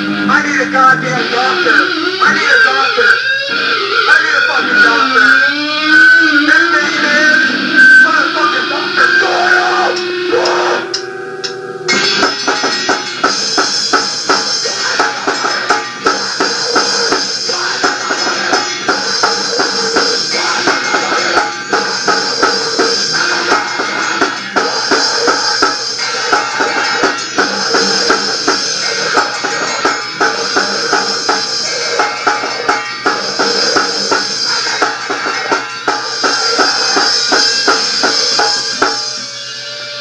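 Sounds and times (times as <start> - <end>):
driving drum-kit beat: 0.0 - 39.5
electric guitar: 0.0 - 40.0.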